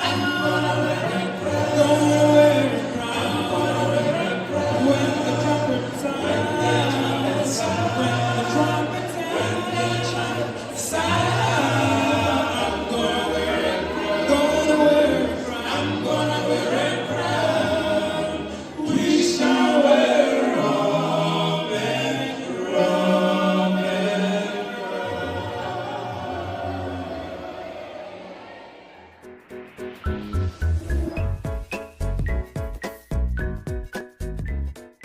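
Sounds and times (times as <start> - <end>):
a cappella group singing: 0.0 - 29.4.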